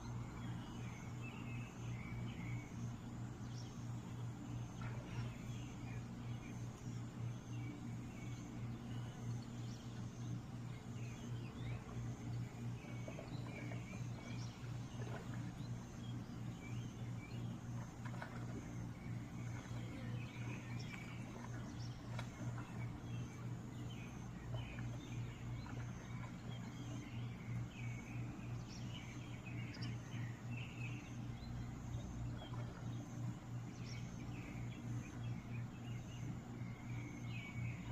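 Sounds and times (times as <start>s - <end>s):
low pulsing hum: 0.0s - 37.9s.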